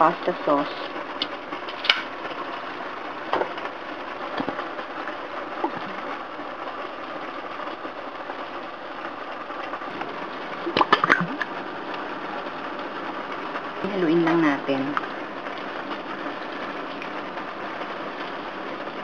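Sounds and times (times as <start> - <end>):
meat sizzling in a pan: 0.0 - 19.0.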